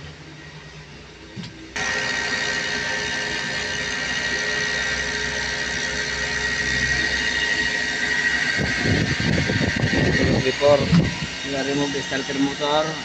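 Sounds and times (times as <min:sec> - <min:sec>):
machinery rumble and whine: 0:00.0 - 0:13.0.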